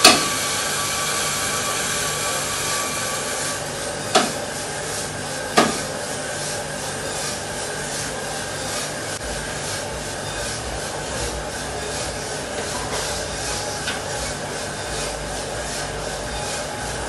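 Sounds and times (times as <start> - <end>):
coffee roaster rushing noise: 0.0 - 17.0.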